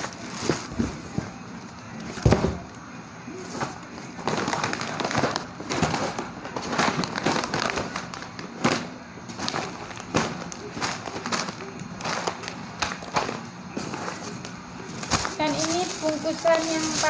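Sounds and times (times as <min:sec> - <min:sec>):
plastic bags crinkling: 0:00.0 - 0:02.4, 0:03.4 - 0:17.0.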